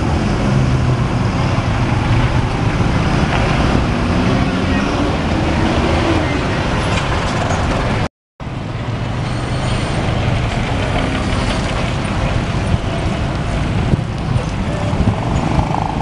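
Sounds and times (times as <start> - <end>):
bus diesel engines running: 0.0 - 16.0
road traffic noise: 0.0 - 16.0.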